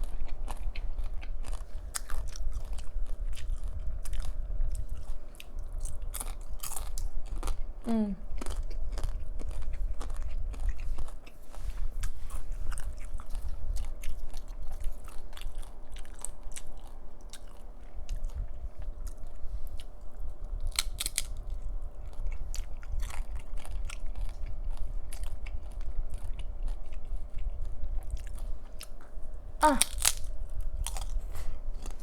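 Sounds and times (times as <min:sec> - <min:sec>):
chewing and crunching chips: 0:00.0 - 0:32.0.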